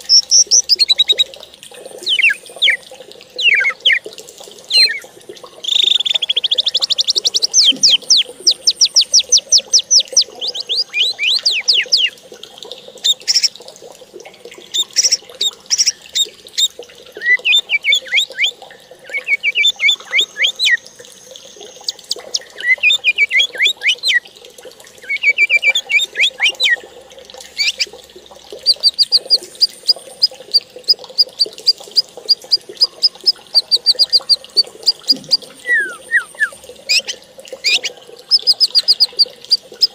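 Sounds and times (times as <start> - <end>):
bird chirping song: 0.0 - 1.3, 2.0 - 2.8, 3.4 - 4.0, 4.7 - 12.2, 13.0 - 13.5, 14.7 - 20.8, 21.8 - 24.2, 25.0 - 26.8, 27.6 - 27.9, 28.6 - 39.9.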